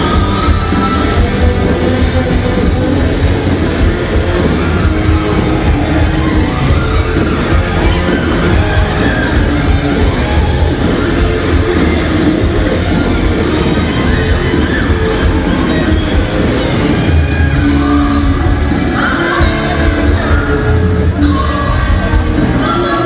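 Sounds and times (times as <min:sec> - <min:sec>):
hard rock band playing live: 0:00.0 - 0:23.0.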